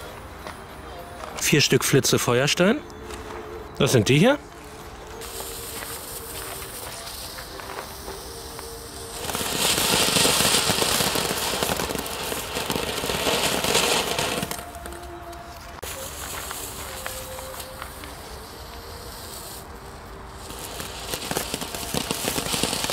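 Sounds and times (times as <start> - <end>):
firework fountain hissing and crackling: 0.0 - 22.9.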